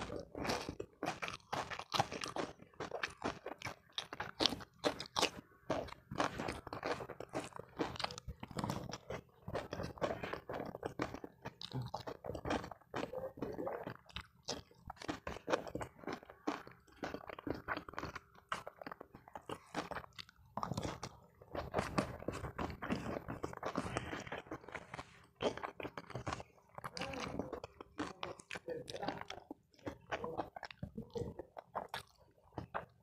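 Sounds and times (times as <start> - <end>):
person chewing and crunching food: 0.0 - 33.0.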